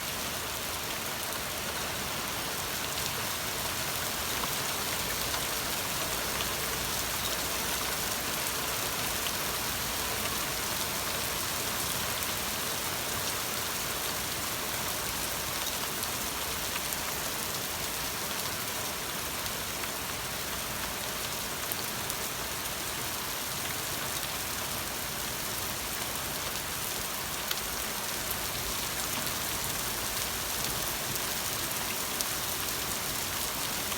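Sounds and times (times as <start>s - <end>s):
steady rain pattering: 0.0s - 33.9s.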